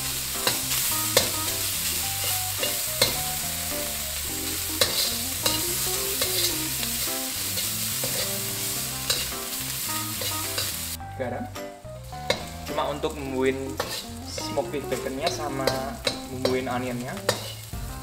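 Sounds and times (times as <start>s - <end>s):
metal ladle scraping a wok: 0.0s - 11.0s, 12.2s - 12.6s, 13.7s - 17.7s
food sizzling in a wok: 0.0s - 18.0s.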